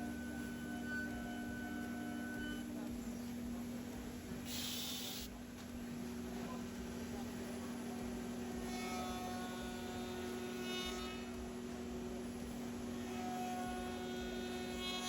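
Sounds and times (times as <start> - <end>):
cnc router humming: 0.0 - 15.0
high-pitched whine: 0.0 - 15.0.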